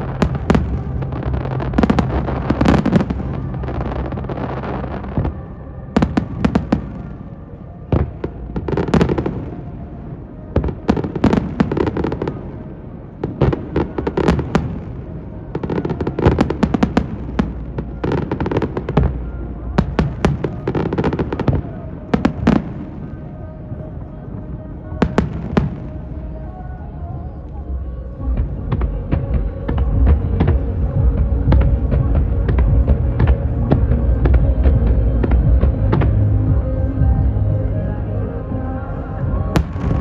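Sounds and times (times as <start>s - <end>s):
fireworks bangs and crackles: 0.0s - 26.8s, 28.2s - 37.6s, 39.2s - 40.0s.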